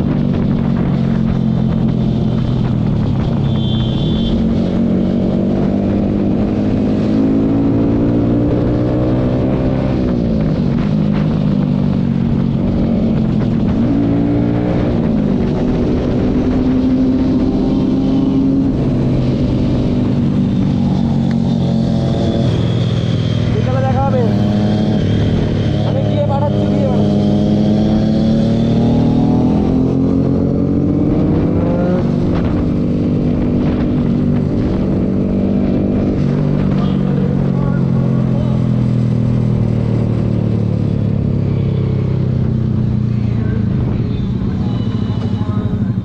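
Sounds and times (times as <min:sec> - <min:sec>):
motorcycle engine cruising: 0:00.0 - 0:46.0
wind and road noise: 0:00.0 - 0:46.0.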